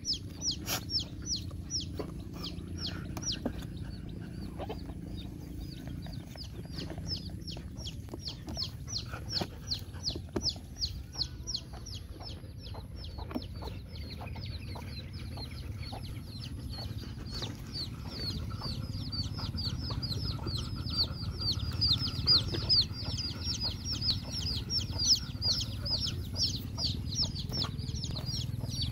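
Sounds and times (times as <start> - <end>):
chicks peeping: 0.0 - 28.9.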